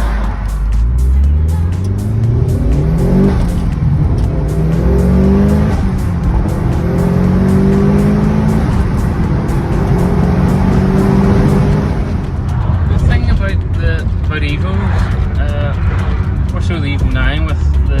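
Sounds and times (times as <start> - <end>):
car engine accelerating hard: 0.0 - 17.4.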